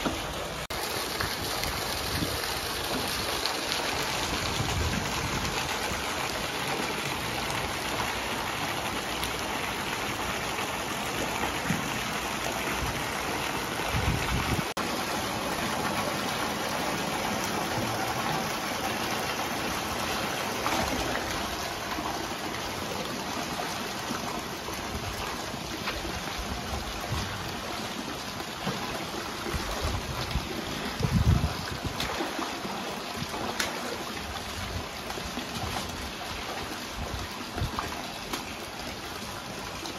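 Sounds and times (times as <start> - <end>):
hose water splashing into pool: 0.0 - 39.9.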